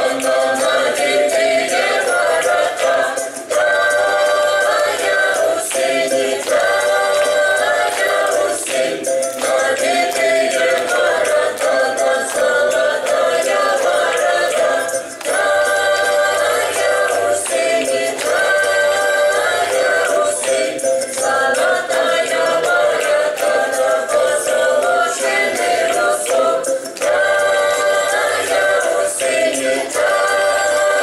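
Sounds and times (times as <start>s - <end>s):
music: 0.0s - 31.0s
several voices singing together: 0.0s - 31.0s.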